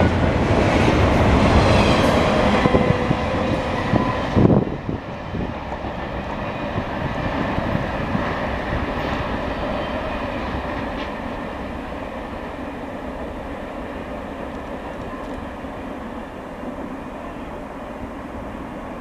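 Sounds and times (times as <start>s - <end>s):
freight train wheel rumble: 0.0s - 19.0s.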